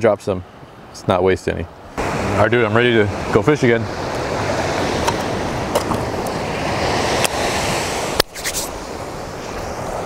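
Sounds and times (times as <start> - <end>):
ocean surf breaking: 0.0 - 10.0
wind: 0.0 - 10.0.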